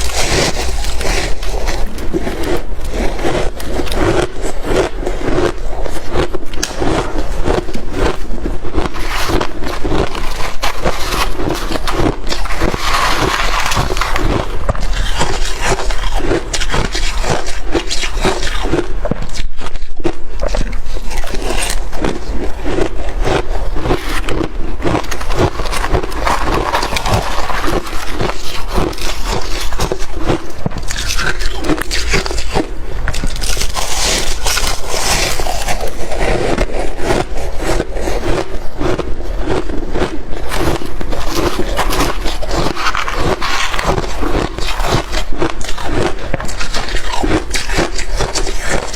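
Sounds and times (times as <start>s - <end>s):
chewing and crunching frost: 0.0s - 48.9s.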